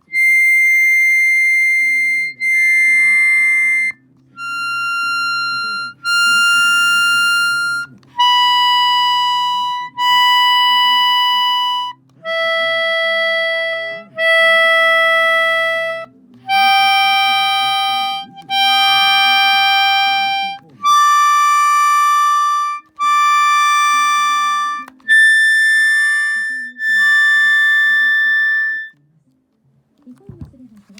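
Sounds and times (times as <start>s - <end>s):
concertina held notes and chords: 0.0s - 28.9s.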